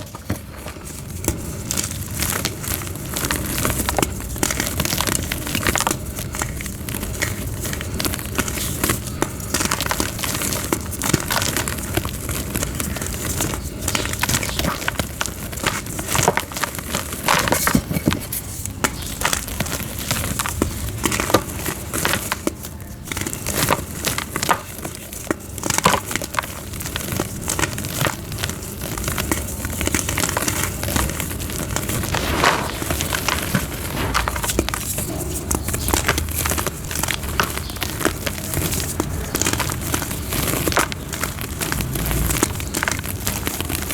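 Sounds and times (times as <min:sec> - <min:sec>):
chalk crunching: 0:00.0 - 0:43.9.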